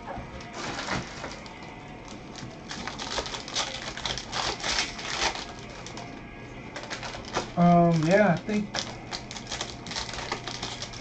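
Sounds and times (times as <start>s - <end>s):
foil wrappers crinkling and tearing: 0.4s - 11.0s.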